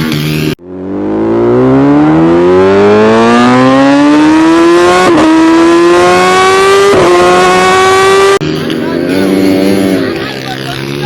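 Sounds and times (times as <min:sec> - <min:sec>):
vehicle engine accelerating hard: 0:00.0 - 0:11.0.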